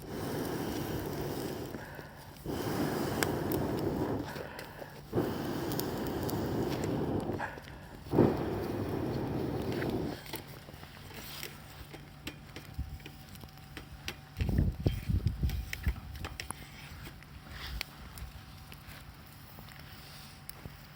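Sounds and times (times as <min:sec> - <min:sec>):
campfire crackling and popping: 0:00.0 - 0:20.9.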